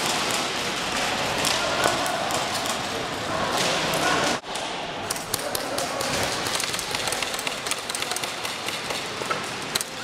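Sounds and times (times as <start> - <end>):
murmur of voices: 0.8 - 10.0.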